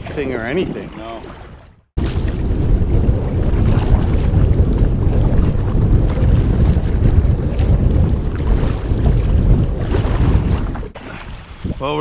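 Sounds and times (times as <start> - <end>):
choppy water washing around canoes: 0.0 - 12.0
strong wind buffeting microphone: 0.0 - 12.0.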